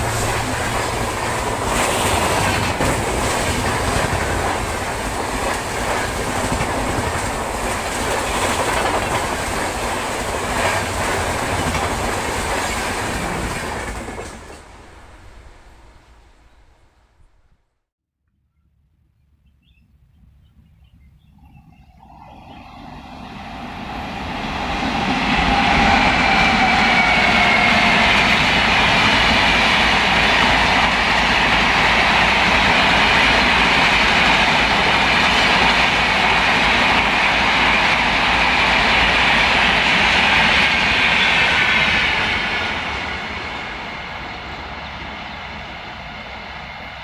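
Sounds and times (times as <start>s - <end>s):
train passing on rails: 0.0s - 17.8s, 21.9s - 47.0s.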